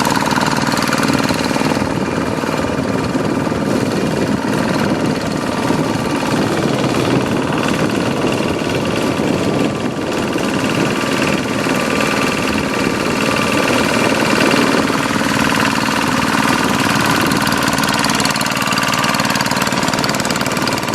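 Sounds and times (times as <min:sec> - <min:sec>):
hand tractor diesel engine running: 0:00.0 - 0:20.9.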